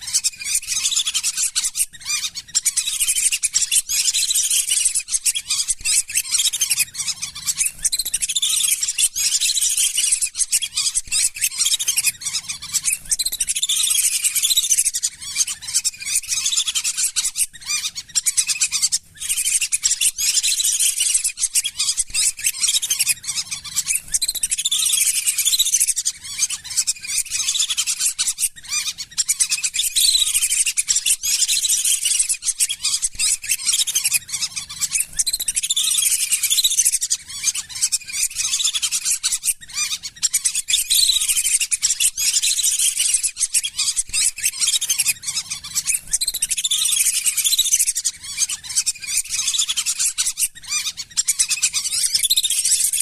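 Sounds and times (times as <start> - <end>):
ducks whistling: 0.0 - 53.0.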